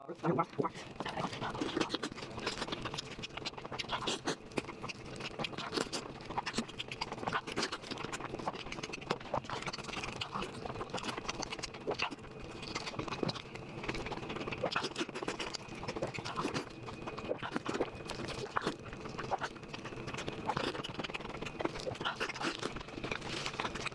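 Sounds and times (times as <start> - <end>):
wet chewing with crunches: 0.1 - 23.9.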